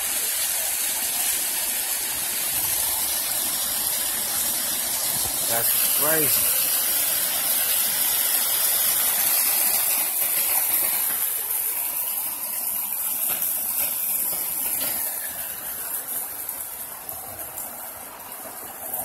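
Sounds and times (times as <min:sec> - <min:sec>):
sewage water rushing across road: 0:00.0 - 0:19.0.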